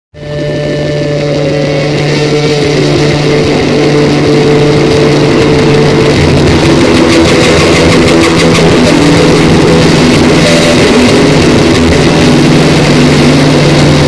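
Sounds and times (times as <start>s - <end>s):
watercraft engine humming: 0.2s - 14.0s.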